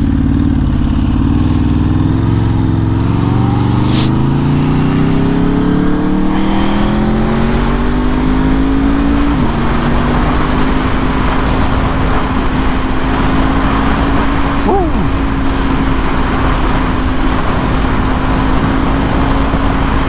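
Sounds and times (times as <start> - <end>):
gear change: 0.0 - 20.0
motorcycle engine accelerating: 0.0 - 20.0
wind rush: 0.0 - 20.0.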